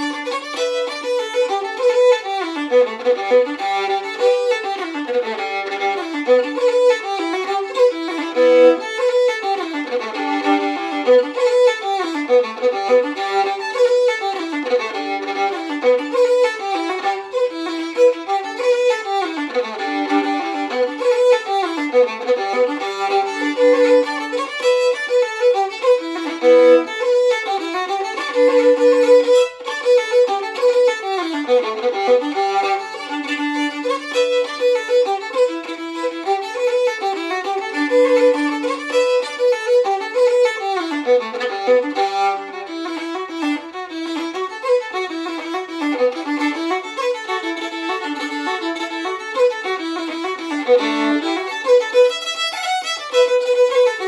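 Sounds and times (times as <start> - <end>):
fiddle playing a fast reel: 0.0 - 54.0.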